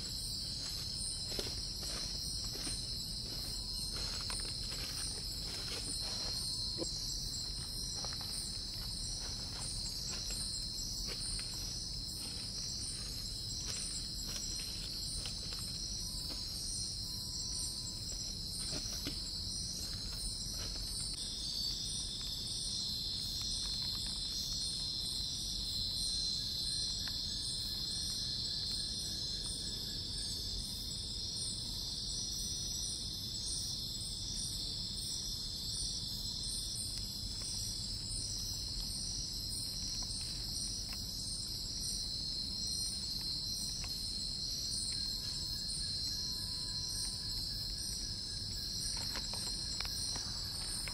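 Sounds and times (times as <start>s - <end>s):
insects trilling: 0.0s - 50.9s
steady insect whine: 0.0s - 50.9s.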